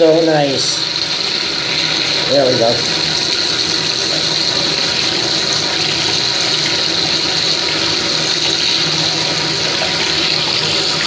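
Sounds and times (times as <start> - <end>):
tap water pouring into tub: 0.0 - 11.0.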